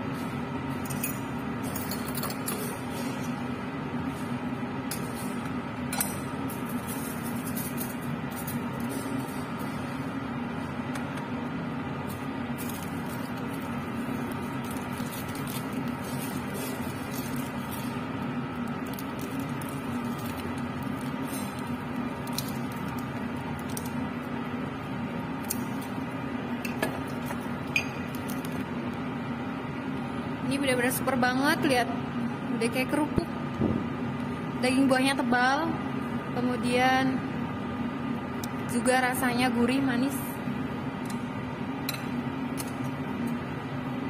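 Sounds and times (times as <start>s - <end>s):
blower humming with air rush: 0.0s - 44.0s.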